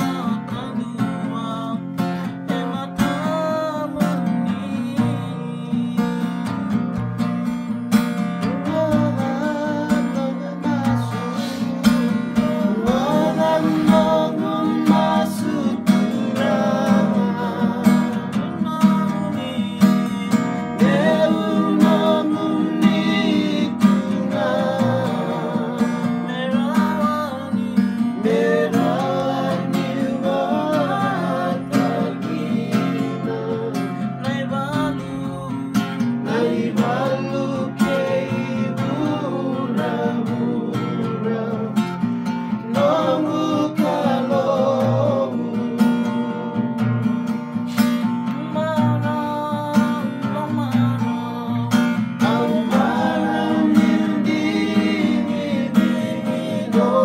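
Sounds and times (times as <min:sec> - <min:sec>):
men singing: 0:00.0 - 0:06.8, 0:08.2 - 0:57.0
acoustic guitar strumming: 0:00.0 - 0:57.0.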